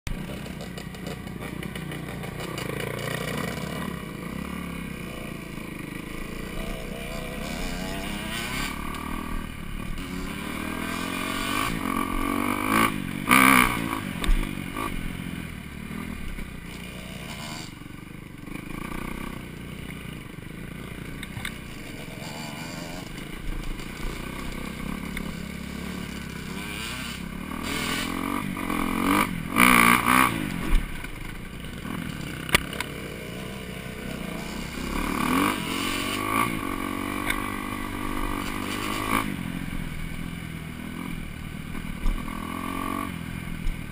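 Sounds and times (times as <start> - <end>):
dirt bike engine revving: 0.1 - 43.9.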